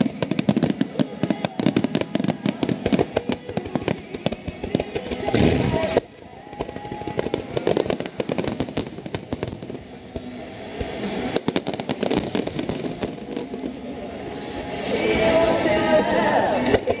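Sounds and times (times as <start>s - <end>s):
fireworks crackling and banging: 0.0s - 17.0s
music playing: 0.0s - 17.0s.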